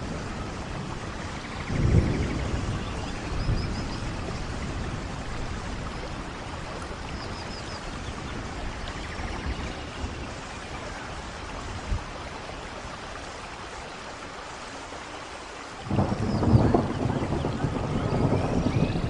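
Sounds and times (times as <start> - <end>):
rain falling in forest: 0.0 - 19.0.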